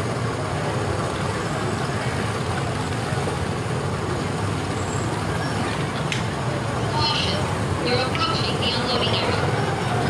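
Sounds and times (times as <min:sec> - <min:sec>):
small gasoline engines droning: 0:00.0 - 0:10.0.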